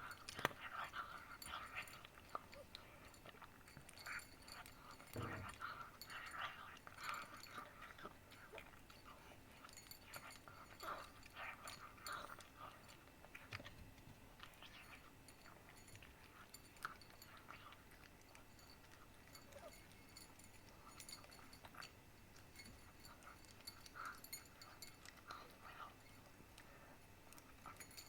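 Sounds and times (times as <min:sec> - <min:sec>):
cat chewing food: 0:00.0 - 0:28.0.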